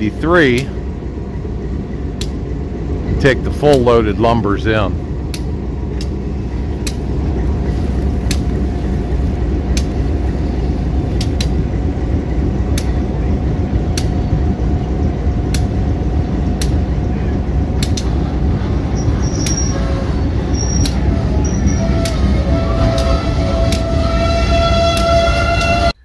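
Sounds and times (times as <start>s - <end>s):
diesel locomotive rumble: 0.0s - 26.0s
wheels clicking over rail joints: 0.0s - 26.0s.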